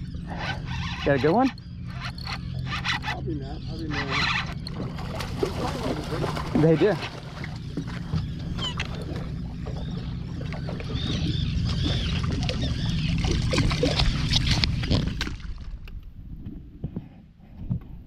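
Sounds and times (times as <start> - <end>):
birds chirping: 0.0 - 15.2
boat engine humming: 0.0 - 16.4.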